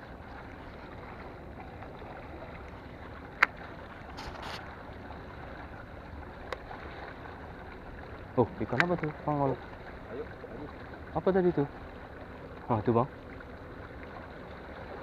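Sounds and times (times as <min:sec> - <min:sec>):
water and wind at shoreline: 0:00.0 - 0:15.0.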